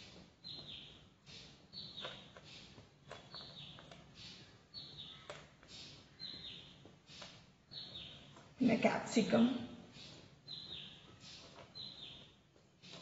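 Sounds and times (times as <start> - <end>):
bird chirping: 0.0 - 13.0
soft hissy bird notes: 0.0 - 13.0.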